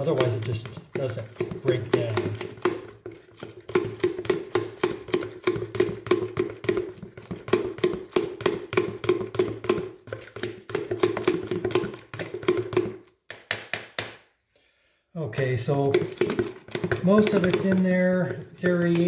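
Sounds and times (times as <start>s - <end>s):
knife tapping plastic tub: 0.0s - 14.2s, 15.4s - 19.0s.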